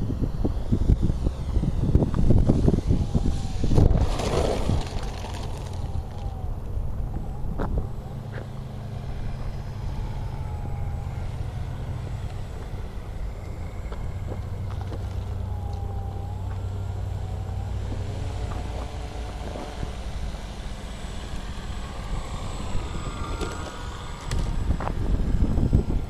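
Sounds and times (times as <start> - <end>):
model plane motor whine: 0.0 - 26.0
wind buffeting microphone: 0.0 - 26.0.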